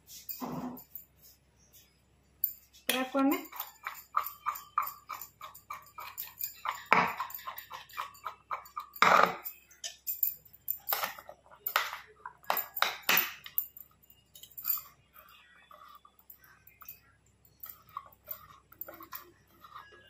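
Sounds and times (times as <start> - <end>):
spoon clinking against bowl: 2.4 - 20.0.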